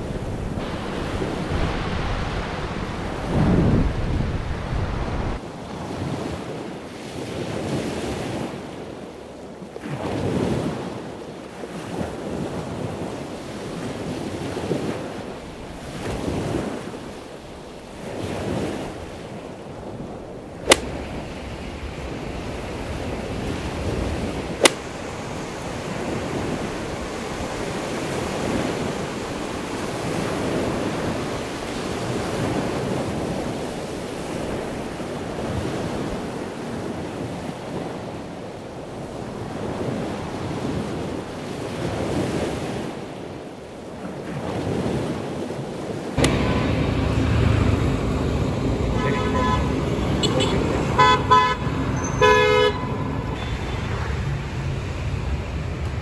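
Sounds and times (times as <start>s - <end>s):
surf breaking on beach: 0.0s - 8.9s, 9.8s - 56.0s
wind buffeting microphone: 0.0s - 56.0s.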